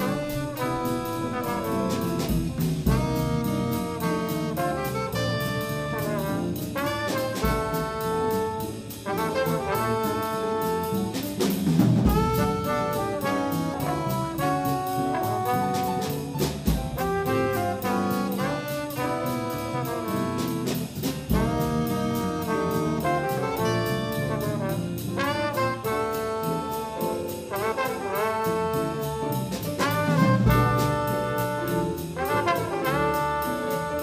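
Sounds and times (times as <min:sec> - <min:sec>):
heavy drum hits: 0:00.0 - 0:34.0
jazz combo playing: 0:00.0 - 0:34.0.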